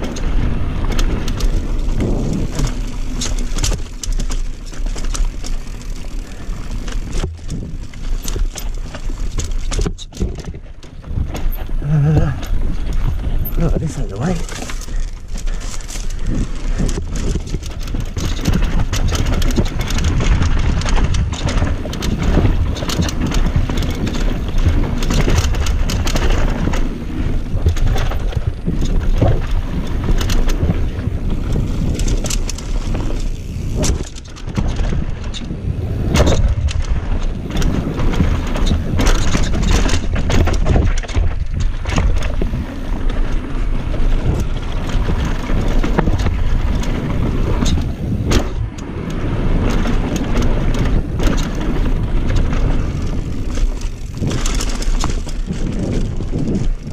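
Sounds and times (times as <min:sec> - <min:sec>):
bike rattling over bumps: 0:00.0 - 0:56.9
tyres rumbling on dirt: 0:00.0 - 0:56.9
wind buffeting microphone: 0:00.0 - 0:56.9.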